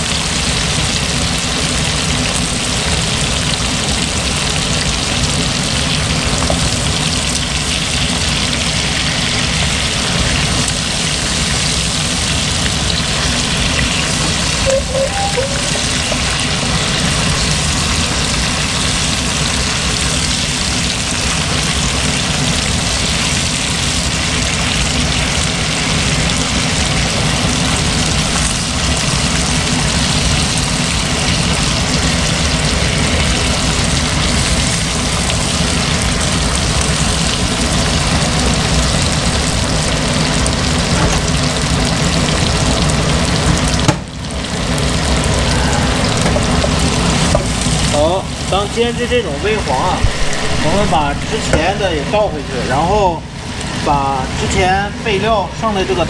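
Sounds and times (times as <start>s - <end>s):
chicken wings sizzling in oil: 0.0s - 56.0s.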